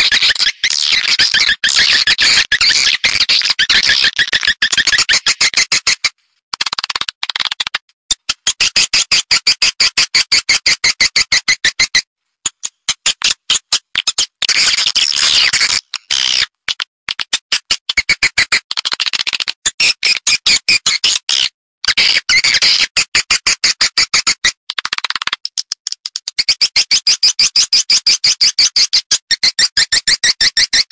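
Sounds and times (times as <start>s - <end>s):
high bird chirps and clicks: 0.0s - 30.9s.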